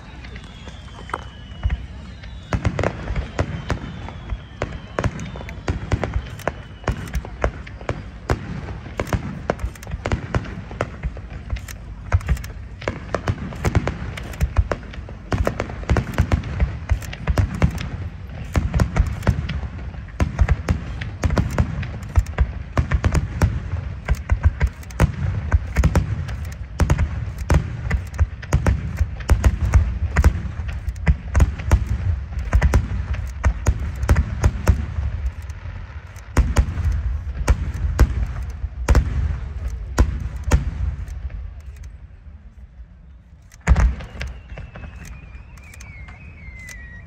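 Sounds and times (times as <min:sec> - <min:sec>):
fireworks shells bursting: 0:00.1 - 0:42.0, 0:43.3 - 0:47.0.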